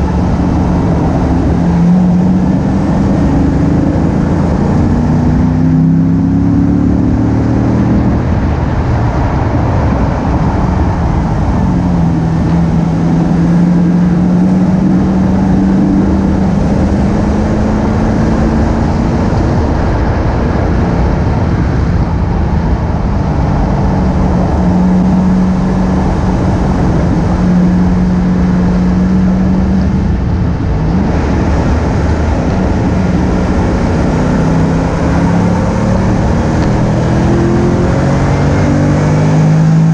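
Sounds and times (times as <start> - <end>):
car engine on racetrack: 0.0 - 39.9
wind rush: 0.0 - 39.9.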